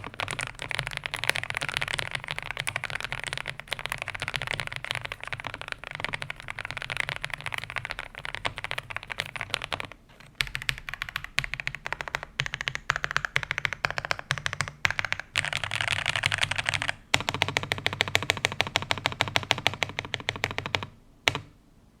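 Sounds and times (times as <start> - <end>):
fast typing on mechanical keyboard: 0.0 - 21.5.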